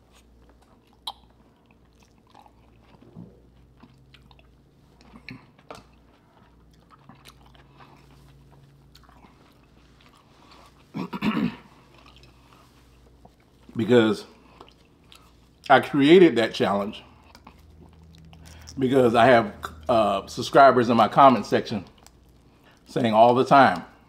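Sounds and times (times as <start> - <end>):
person chewing food: 0.0 - 15.8, 16.9 - 19.9, 21.8 - 22.9.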